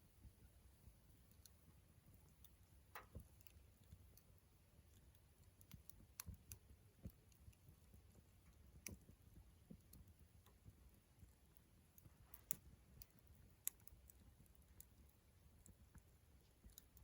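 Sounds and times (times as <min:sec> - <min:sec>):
campfire crackling: 0:00.2 - 0:17.0
fire snaps and pops: 0:01.2 - 0:17.0.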